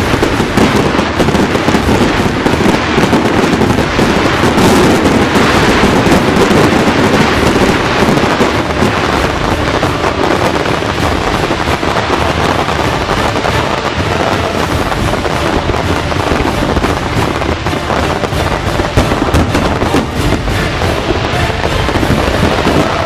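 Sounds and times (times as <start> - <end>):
firecracker bangs crackling: 0.0 - 23.0.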